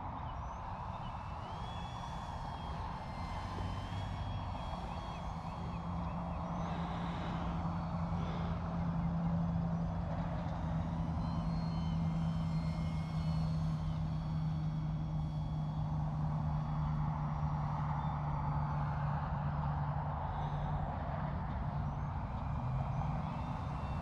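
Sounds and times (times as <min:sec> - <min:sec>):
model plane motor whine: 0:00.0 - 0:24.0
outdoor noise: 0:00.0 - 0:24.0
steady low hum: 0:00.0 - 0:24.0.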